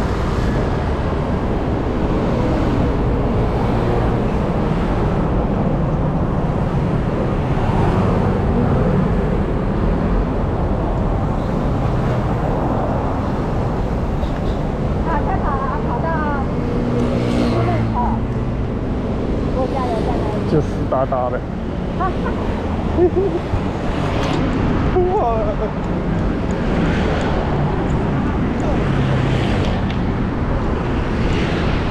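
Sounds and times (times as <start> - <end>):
scooters and cars passing: 0.0 - 31.9.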